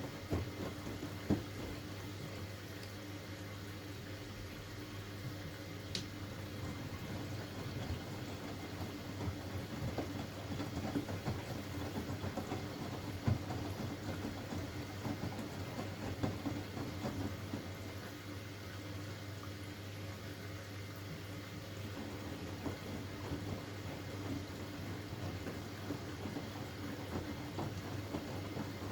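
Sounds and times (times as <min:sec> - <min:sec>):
washing machine hum: 0:00.0 - 0:28.9
water splashing in a drum: 0:00.0 - 0:28.9.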